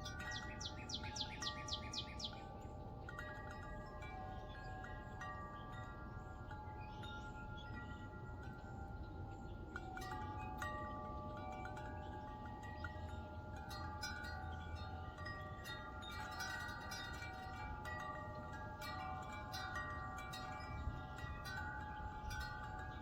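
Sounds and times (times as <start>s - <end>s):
wind chimes ringing: 0.0s - 23.0s.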